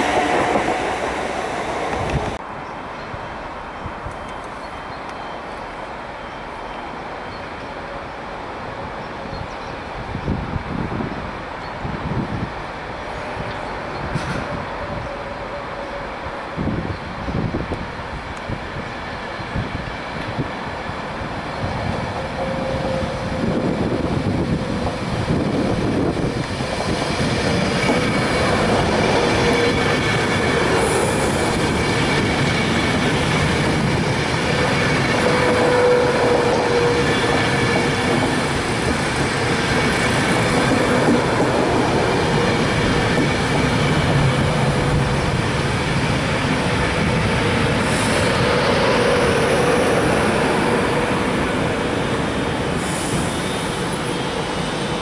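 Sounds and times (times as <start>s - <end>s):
train wheels rumbling on rail: 0.0s - 2.6s, 3.9s - 55.0s.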